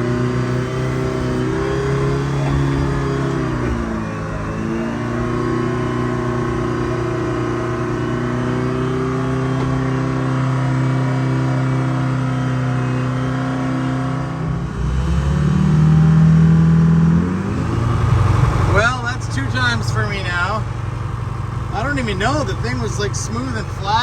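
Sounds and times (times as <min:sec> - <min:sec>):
pickup truck engine running: 0:00.0 - 0:14.4, 0:15.9 - 0:24.0.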